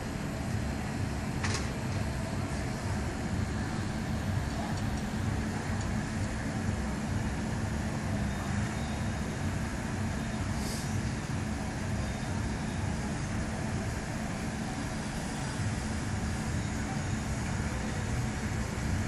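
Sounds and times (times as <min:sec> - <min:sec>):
ride machinery rumbling: 0:00.0 - 0:19.0.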